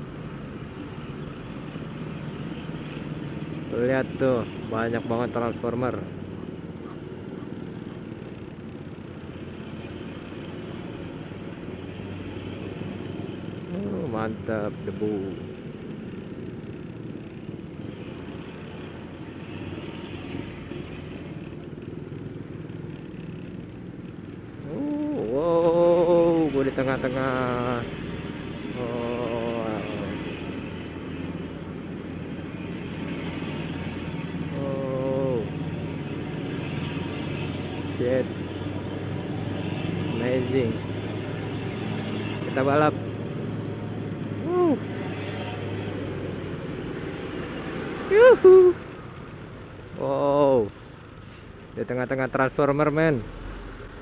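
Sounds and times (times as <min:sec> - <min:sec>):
road and wind noise: 0:00.0 - 0:54.0
vehicle engines running: 0:00.0 - 0:54.0.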